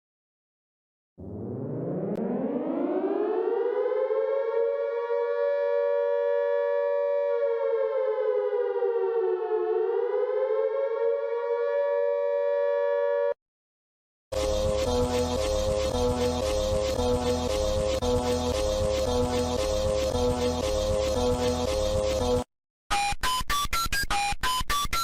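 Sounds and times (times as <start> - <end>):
warning siren wailing: 1.2 - 13.4, 14.4 - 22.4.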